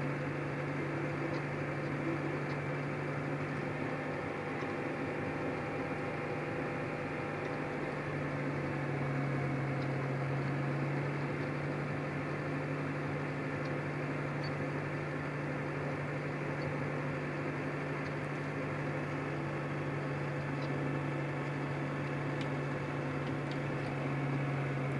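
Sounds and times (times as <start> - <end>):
tractor engine drone: 0.0 - 24.9.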